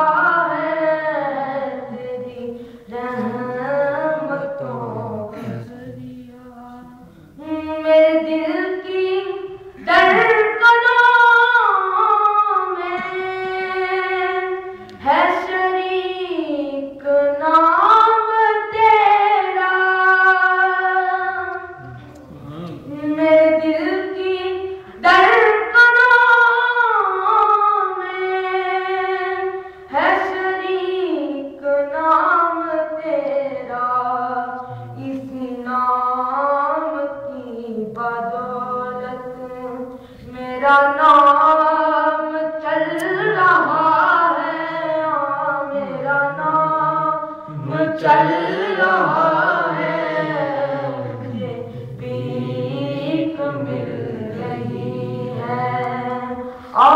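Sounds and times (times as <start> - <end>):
boy singing unaccompanied: 0.0 - 56.9.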